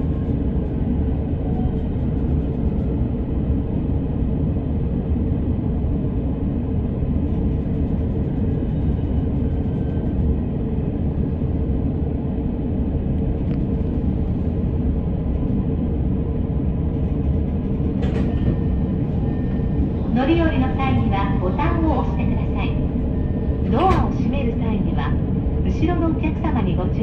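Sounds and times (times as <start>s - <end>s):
train wheels rumbling on rails: 0.0s - 3.8s, 7.1s - 27.0s.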